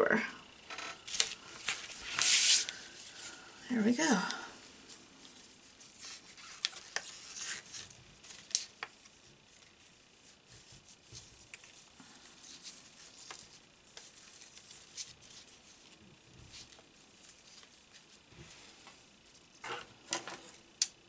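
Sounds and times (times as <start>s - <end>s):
paper rustling: 1.1s - 3.4s, 4.8s - 20.6s.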